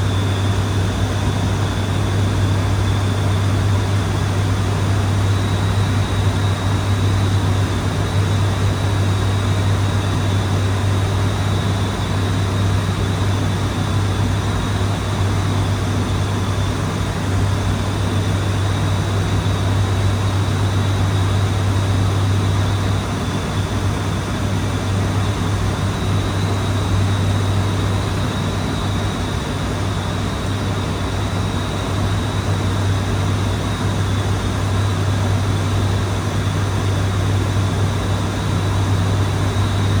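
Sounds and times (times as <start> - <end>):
deep drone of propeller engines: 0.0 - 40.0.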